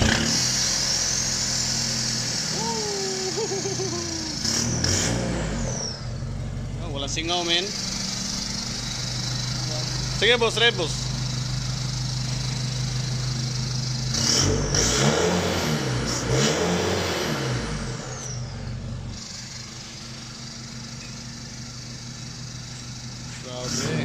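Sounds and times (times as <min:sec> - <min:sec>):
diesel engine idling and revving: 0:00.0 - 0:24.0.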